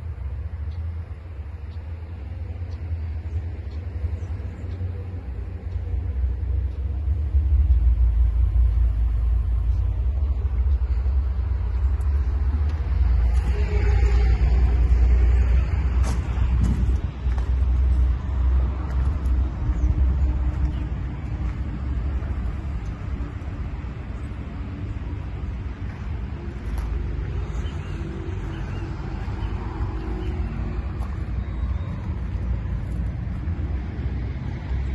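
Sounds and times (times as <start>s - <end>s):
truck diesel engine rumbling: 0.0s - 34.9s.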